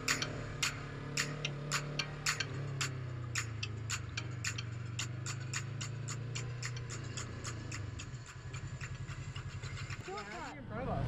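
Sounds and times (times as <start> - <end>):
turn signal clicking: 0.0 - 10.5
motorcycle engine running: 0.0 - 11.0.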